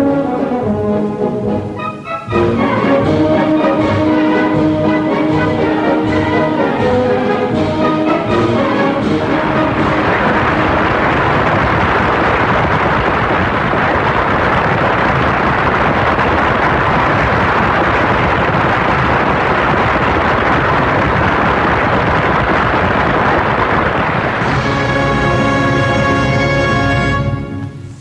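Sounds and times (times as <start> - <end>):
crowd applauding: 1.9 - 27.5.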